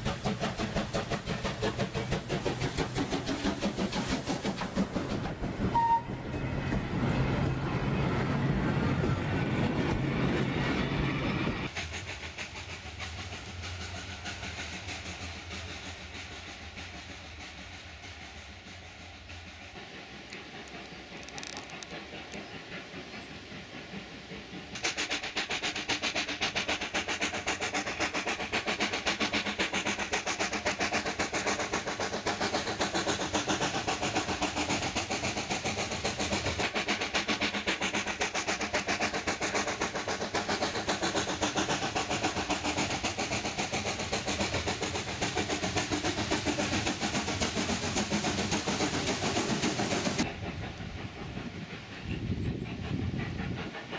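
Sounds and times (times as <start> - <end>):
steam hissing: 0.0 - 53.9
steam locomotive chuffing: 0.0 - 53.9.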